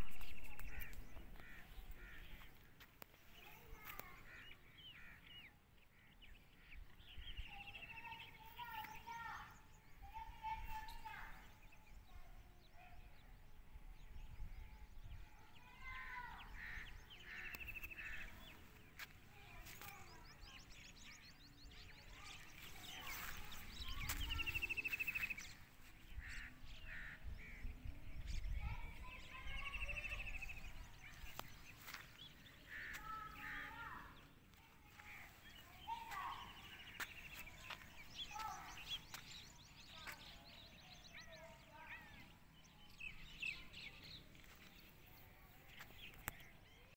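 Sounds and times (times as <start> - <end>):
birds chirping with trills: 0.0 - 46.9.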